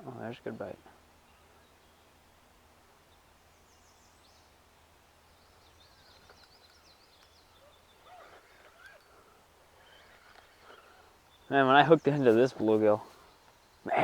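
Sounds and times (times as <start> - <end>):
birds chirping: 0.0 - 14.0
quiet outdoor hiss: 0.0 - 14.0.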